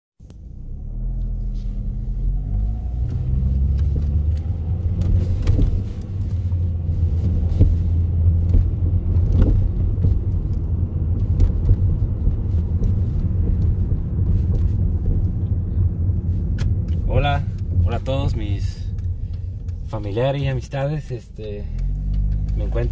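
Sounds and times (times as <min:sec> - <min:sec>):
car engine from inside cabin: 0:00.2 - 0:22.9
road rumble: 0:00.2 - 0:22.9.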